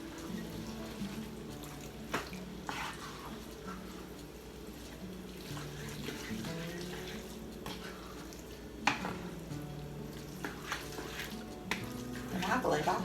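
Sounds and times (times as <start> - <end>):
meat sauce simmering with sizzle: 0.0 - 13.0
soft background music: 0.0 - 13.0.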